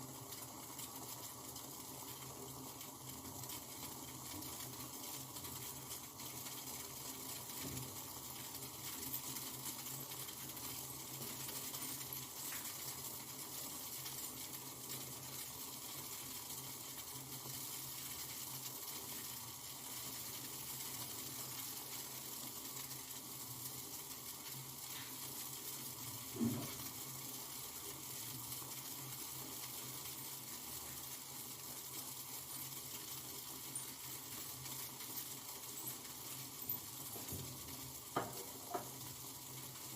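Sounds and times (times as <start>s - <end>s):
gas stove burner hissing: 0.0s - 39.9s
pot heating toward the boil: 0.0s - 39.9s.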